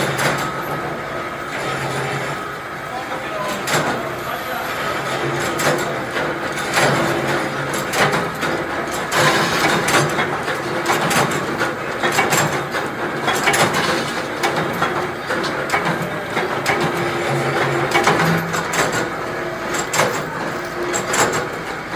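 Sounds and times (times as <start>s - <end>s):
machinery clattering: 0.0s - 21.9s.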